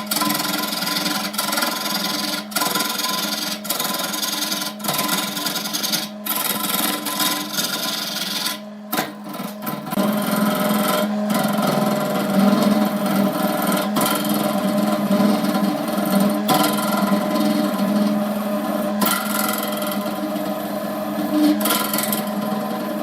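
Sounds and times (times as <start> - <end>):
lathe motor hum: 0.0 - 23.0
tool rubbing spinning wood: 0.0 - 23.0.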